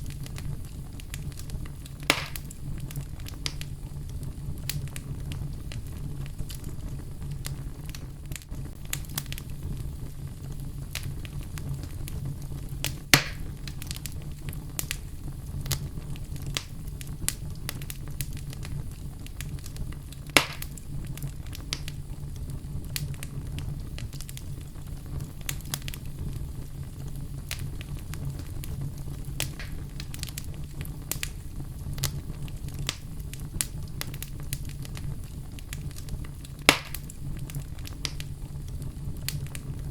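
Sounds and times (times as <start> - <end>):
fire popping sharply: 0.0 - 39.9
wood fire crackling: 0.0 - 39.9.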